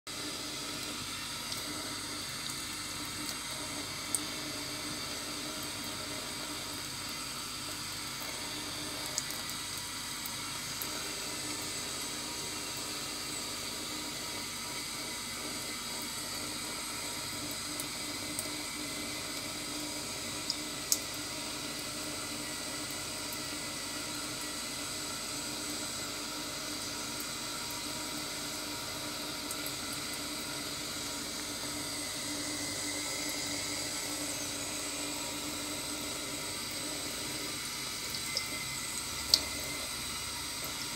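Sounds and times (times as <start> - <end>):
tap water running into sink: 0.1 - 40.9.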